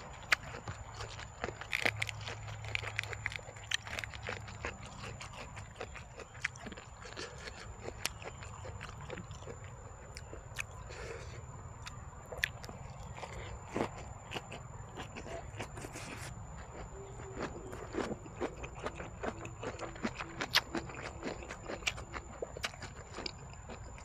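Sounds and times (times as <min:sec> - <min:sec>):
person chewing crunchy food: 0:00.0 - 0:24.0.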